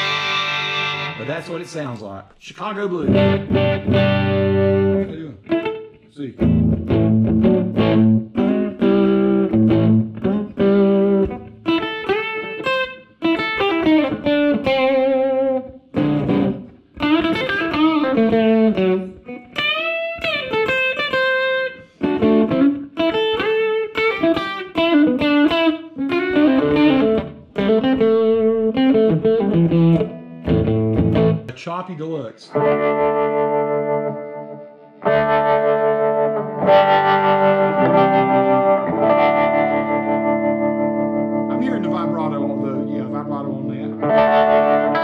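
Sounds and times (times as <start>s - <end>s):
electric guitar playing blues licks: 0.0s - 2.0s, 3.0s - 31.6s, 32.5s - 45.0s.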